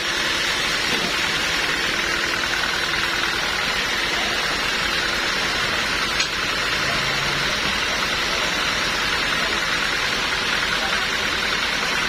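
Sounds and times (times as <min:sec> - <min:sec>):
machine hissing and humming: 0:00.0 - 0:12.0.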